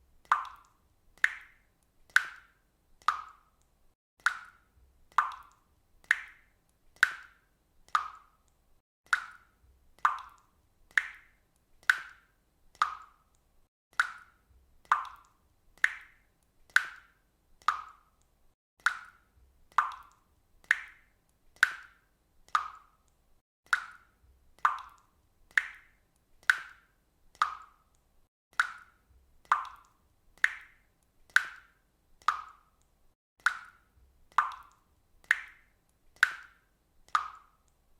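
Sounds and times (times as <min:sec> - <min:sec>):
water dripping: 0:00.1 - 0:37.9.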